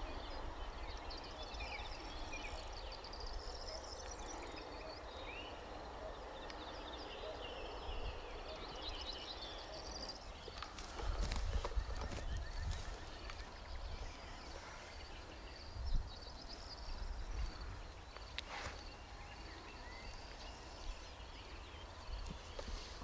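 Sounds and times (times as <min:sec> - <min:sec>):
birds chirping and trilling: 0:00.0 - 0:23.0.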